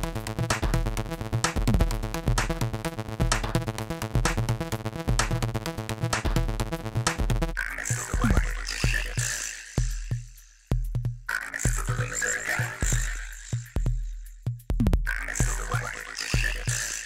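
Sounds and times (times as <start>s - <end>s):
synthesizer music with beat: 0.0s - 17.0s.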